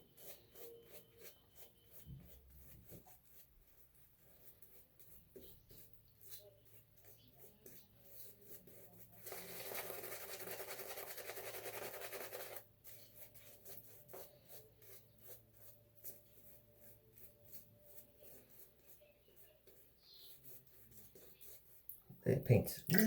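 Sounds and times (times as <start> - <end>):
shaving brush lathering soap: 0.0 - 22.0.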